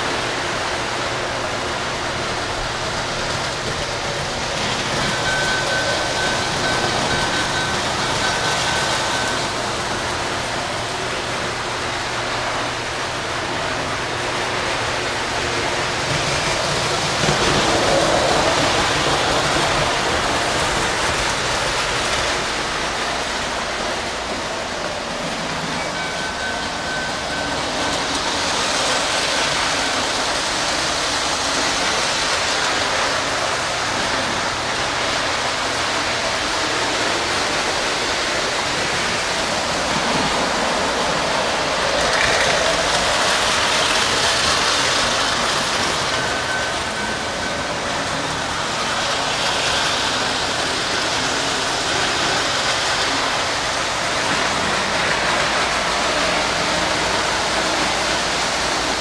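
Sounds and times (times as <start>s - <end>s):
model trains rumbling and whirring: 0.0s - 59.0s.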